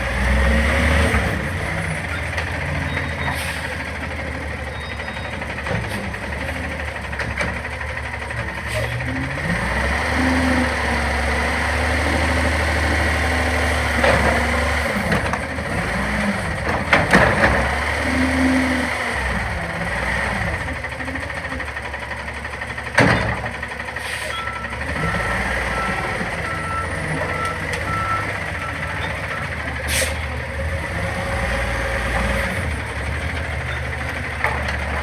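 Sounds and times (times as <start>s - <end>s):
garbage truck engine revving: 0.0s - 35.0s.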